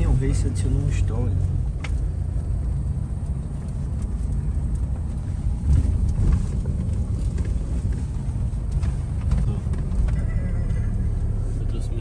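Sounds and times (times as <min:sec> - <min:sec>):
car rumbling on dirt road: 0:00.0 - 0:12.0.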